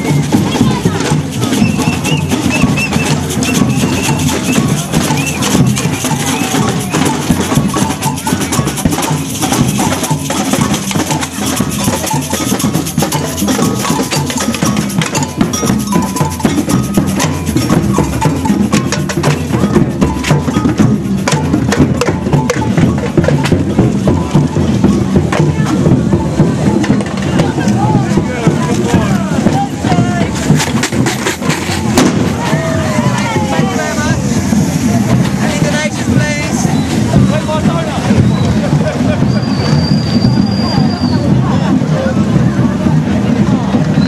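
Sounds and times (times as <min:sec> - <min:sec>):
percussion band playing: 0:00.0 - 0:44.0.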